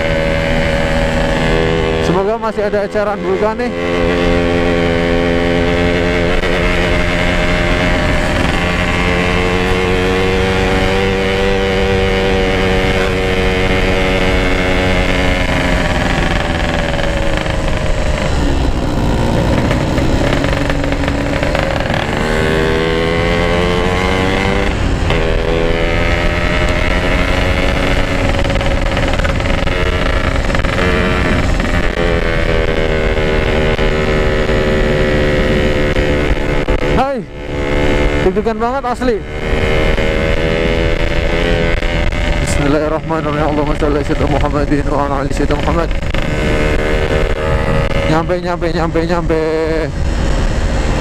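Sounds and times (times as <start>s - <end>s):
two-stroke motorcycle engine: 0.0s - 51.0s.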